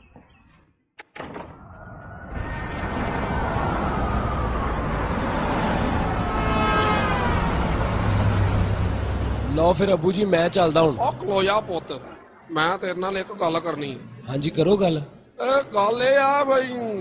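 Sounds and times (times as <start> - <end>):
city street traffic: 1.8 - 17.0.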